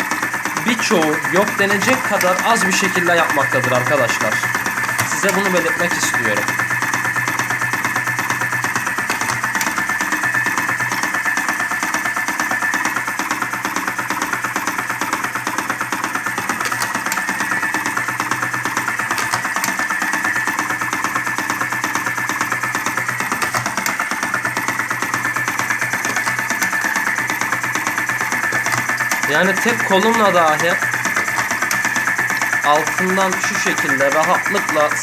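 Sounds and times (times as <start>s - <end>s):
small electric motor whirring: 0.0s - 35.0s.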